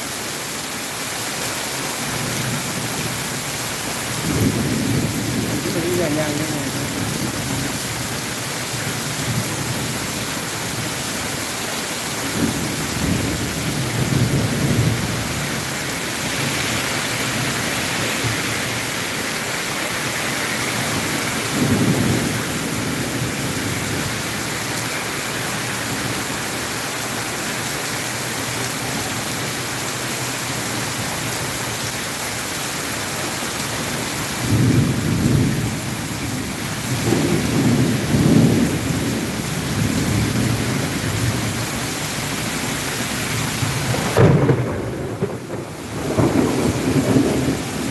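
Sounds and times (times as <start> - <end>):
torrential rain on road: 0.0 - 47.9.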